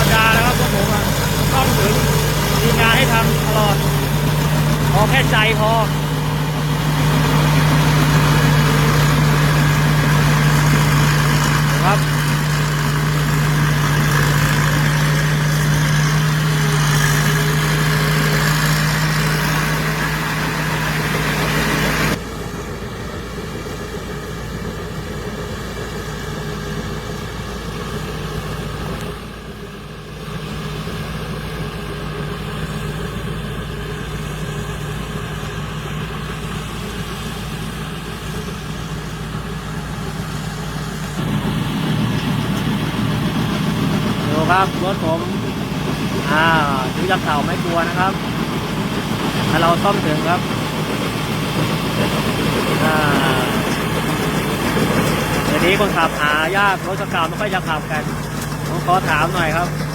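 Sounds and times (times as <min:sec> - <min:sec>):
harvester engine idling: 0:00.0 - 0:59.9.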